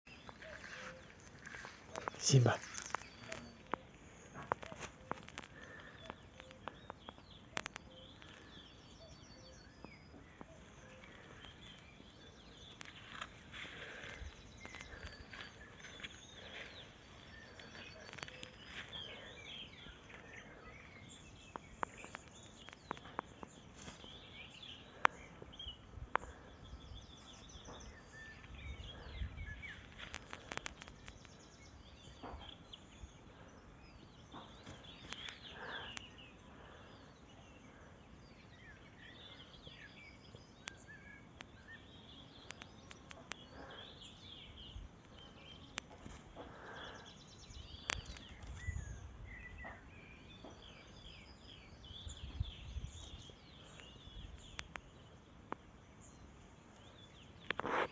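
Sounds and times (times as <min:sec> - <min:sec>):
birds chirping and calling: 0:00.1 - 0:57.9.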